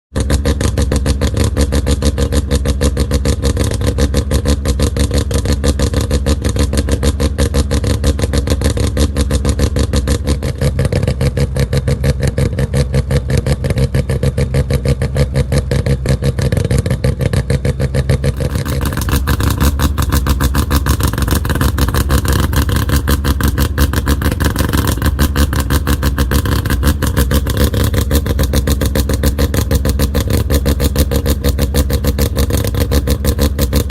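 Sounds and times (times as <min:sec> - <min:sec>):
engine running: 0:00.1 - 0:33.9.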